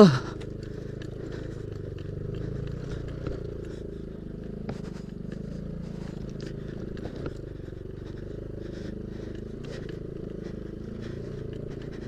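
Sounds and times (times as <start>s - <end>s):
gravel and bodywork rattling: 0.0s - 12.0s
scooter engine running: 0.0s - 12.0s.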